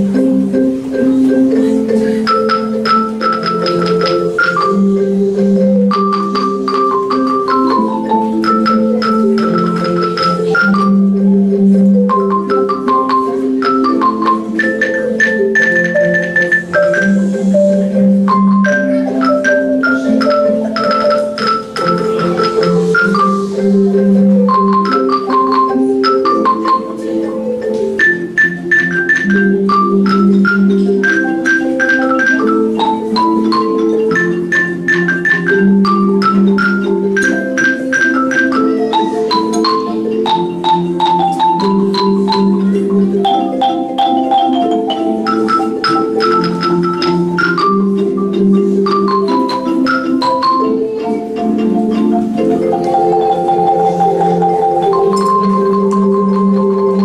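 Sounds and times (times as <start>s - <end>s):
wooden xylophones played with mallets: 0.0s - 57.0s.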